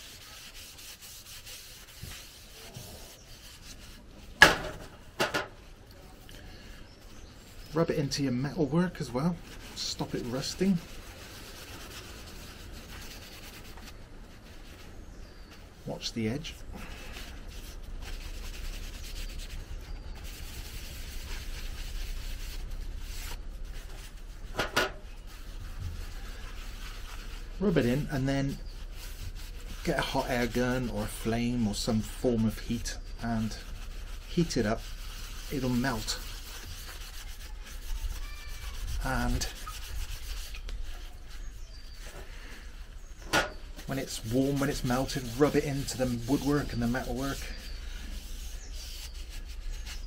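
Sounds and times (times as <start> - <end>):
cloth scrubbing wood: 0.0 - 5.0, 7.0 - 50.0.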